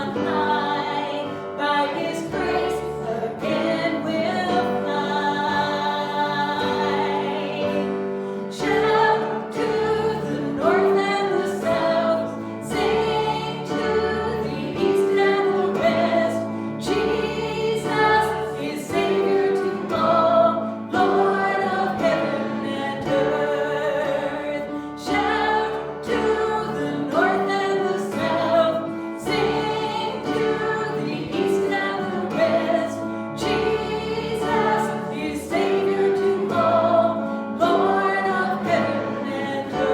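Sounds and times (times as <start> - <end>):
group singing a gospel hymn: 0.0 - 39.9
instrumental accompaniment: 0.0 - 39.9.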